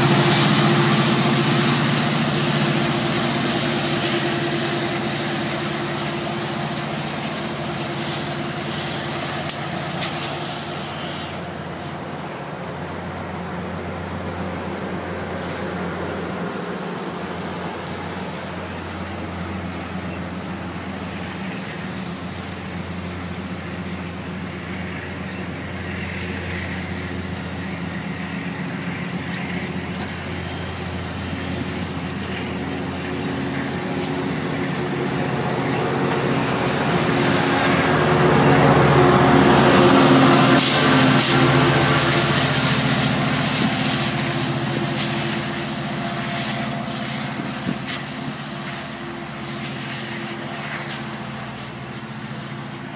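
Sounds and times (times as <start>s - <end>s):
rail and wheel noise: 0.0s - 52.9s
train droning hum: 0.0s - 52.9s.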